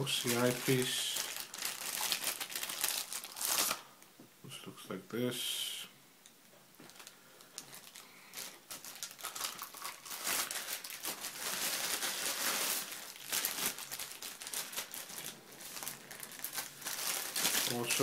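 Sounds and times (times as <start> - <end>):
bubble wrap crinkling: 0.0 - 3.9, 6.8 - 18.0.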